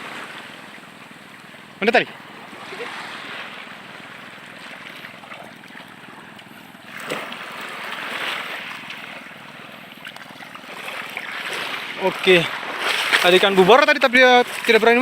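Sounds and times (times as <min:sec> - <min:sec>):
water washing against shore: 0:00.0 - 0:15.0.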